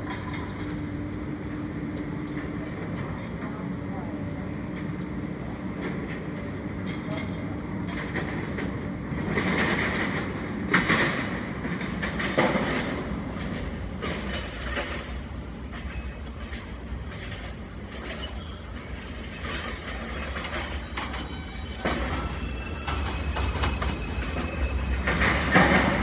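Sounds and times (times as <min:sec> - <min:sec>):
subway train rumbling on track: 0:00.0 - 0:26.0
wheels clacking over rail joints: 0:00.0 - 0:26.0.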